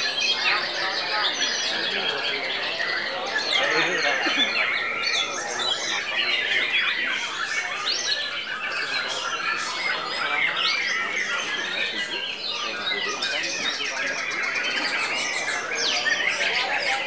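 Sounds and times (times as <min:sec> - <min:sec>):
many birds singing: 0:00.0 - 0:17.0.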